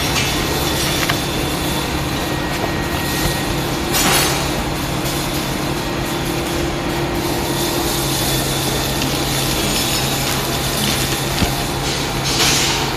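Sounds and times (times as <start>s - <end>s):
mechanical running noise: 0.0s - 12.9s.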